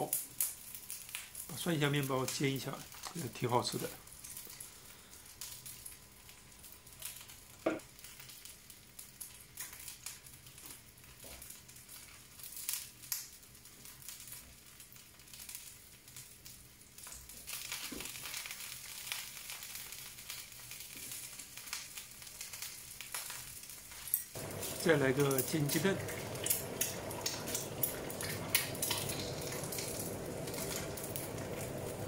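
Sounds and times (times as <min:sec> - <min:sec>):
food sizzling in oil: 0:00.0 - 0:13.3, 0:14.0 - 0:32.0.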